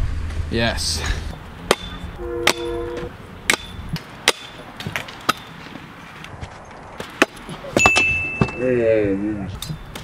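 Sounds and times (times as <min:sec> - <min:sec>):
scooter wheels and deck clacking on concrete: 0:01.7 - 0:10.0.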